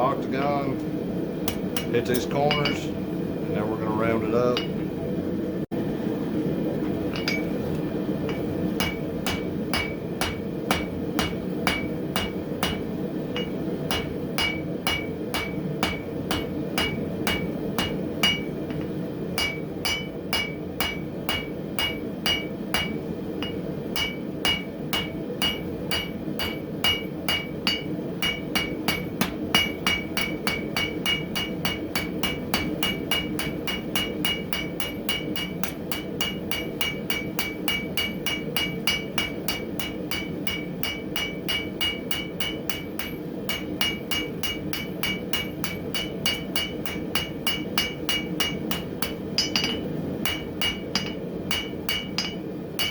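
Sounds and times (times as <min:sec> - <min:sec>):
hammer striking steel on anvil: 0:01.4 - 0:03.0, 0:04.5 - 0:04.9, 0:07.1 - 0:52.9.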